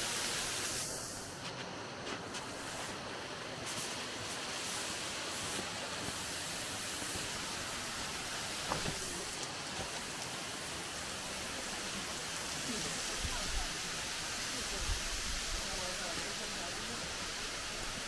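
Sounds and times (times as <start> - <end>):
flowing water rushing: 0.0 - 18.0.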